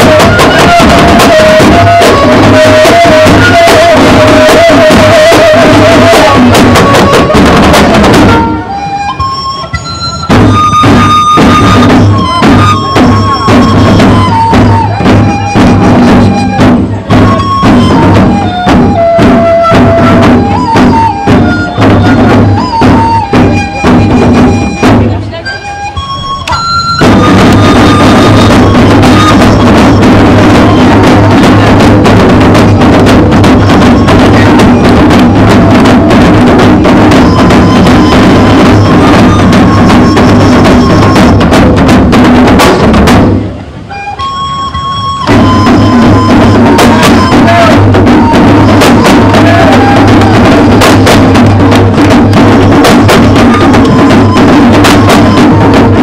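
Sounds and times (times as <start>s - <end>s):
hand drums fast rhythm: 0.0s - 8.5s, 10.3s - 25.1s, 27.0s - 43.4s, 45.3s - 56.0s.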